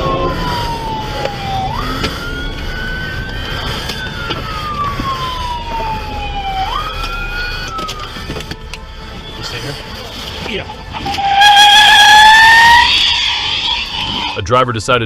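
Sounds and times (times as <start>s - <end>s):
emergency siren wailing: 0.0s - 14.4s
low vehicle rumble: 0.0s - 14.5s.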